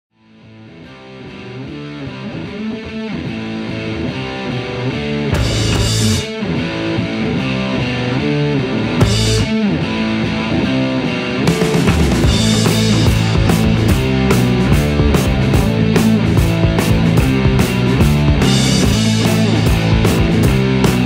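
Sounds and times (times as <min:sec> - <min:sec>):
rock music with electric guitar: 0:00.2 - 0:21.0.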